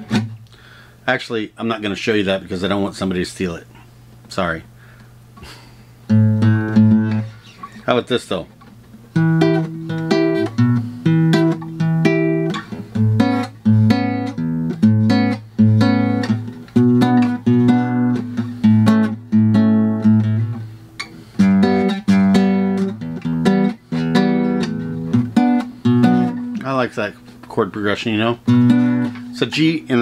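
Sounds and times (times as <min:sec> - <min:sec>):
acoustic guitar strumming: 0:00.0 - 0:00.4, 0:06.0 - 0:30.0.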